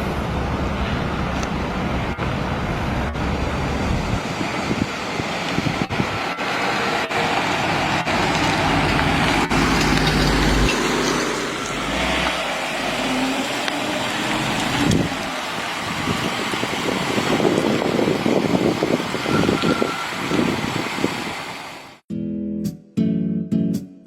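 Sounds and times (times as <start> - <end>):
road and tyre noise: 0.0 - 22.1.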